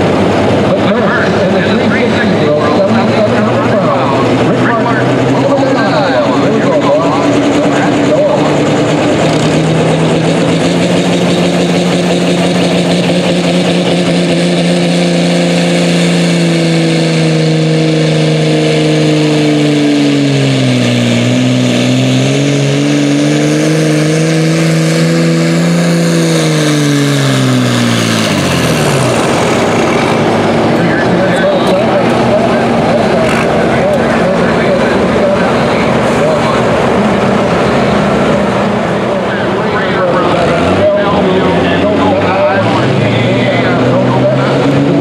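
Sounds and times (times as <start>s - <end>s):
tractor diesel engine at full throttle: 0.0s - 45.0s.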